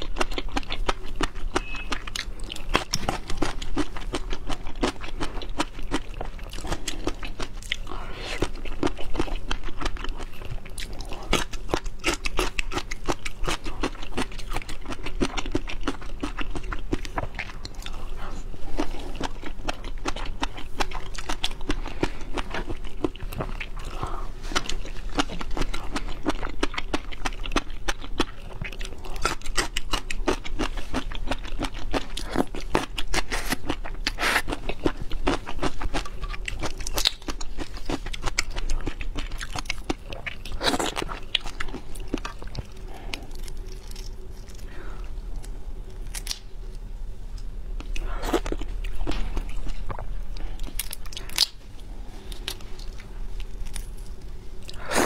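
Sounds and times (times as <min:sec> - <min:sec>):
chewing and crunching seafood: 0:00.0 - 0:46.5, 0:47.3 - 0:55.0.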